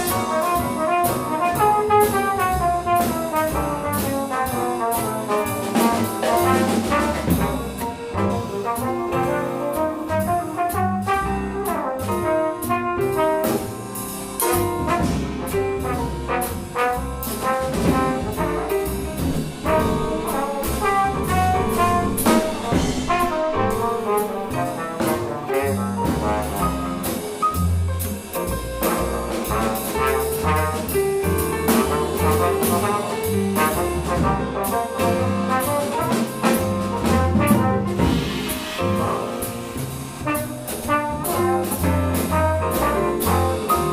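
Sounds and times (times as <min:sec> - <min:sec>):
brass horn melody: 0:00.0 - 0:27.5, 0:28.6 - 0:43.9
bass: 0:00.0 - 0:43.9
drums: 0:00.0 - 0:43.9
piano: 0:00.0 - 0:43.9.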